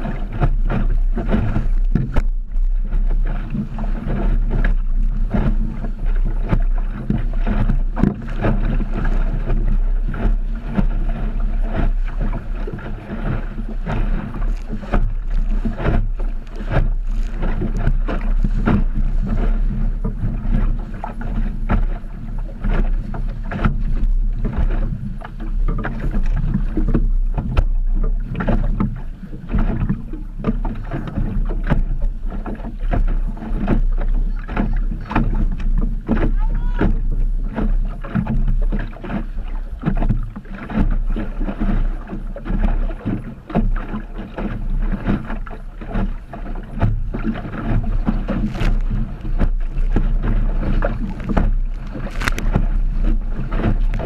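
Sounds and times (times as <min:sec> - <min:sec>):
water slapping against hull: 0:00.0 - 0:54.0
wind buffeting microphone: 0:00.0 - 0:54.0.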